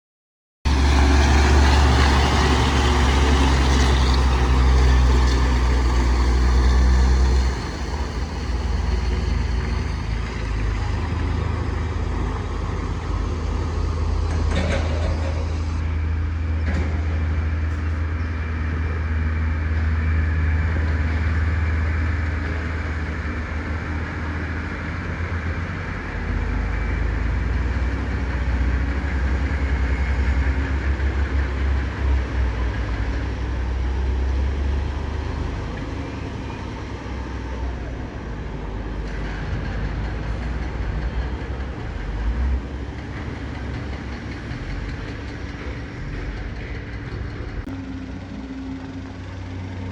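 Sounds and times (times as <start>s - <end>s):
excavator diesel engine under load: 0.7s - 49.9s.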